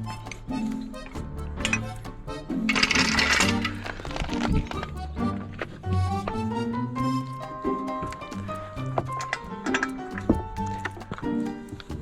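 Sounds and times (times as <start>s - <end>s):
background music with bass: 0.0s - 12.0s.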